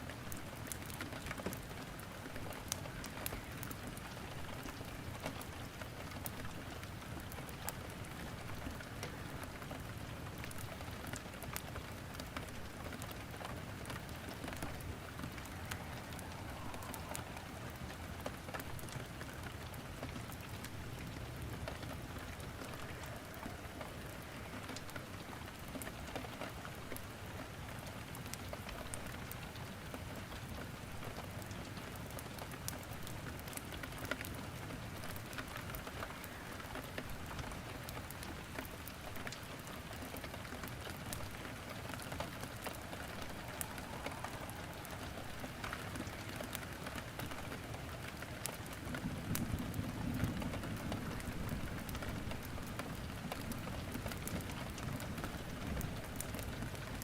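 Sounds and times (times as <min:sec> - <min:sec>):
steady rain falling: 0:00.0 - 0:57.0
wood crackling in a fireplace: 0:00.0 - 0:57.0.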